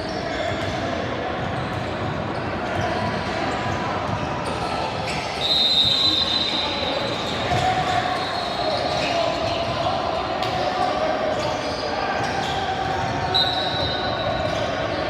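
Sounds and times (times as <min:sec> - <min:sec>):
chatter of players and spectators: 0:00.0 - 0:15.0.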